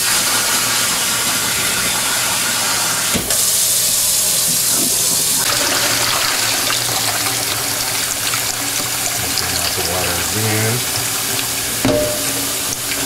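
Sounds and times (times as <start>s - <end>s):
water running into a metal pot: 0.0s - 13.0s.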